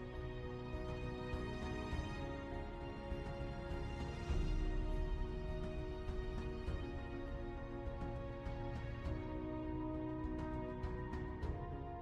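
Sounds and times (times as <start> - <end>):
ambient fantasy music: 0.0 - 12.0.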